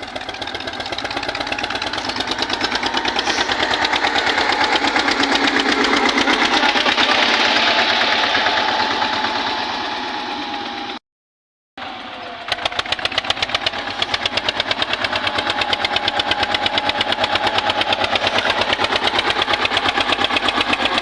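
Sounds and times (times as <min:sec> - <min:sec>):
tractor diesel engine puttering: 0:00.0 - 0:11.0, 0:11.8 - 0:21.0.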